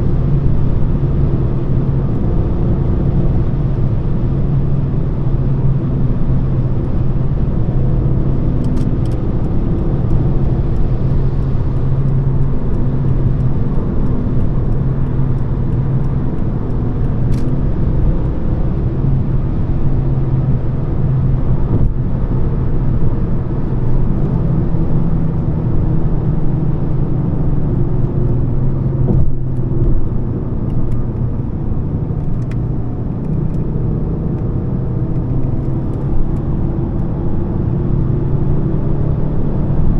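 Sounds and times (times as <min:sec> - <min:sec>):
car engine humming: 0:00.0 - 0:39.9
road and tyre noise: 0:00.0 - 0:39.9.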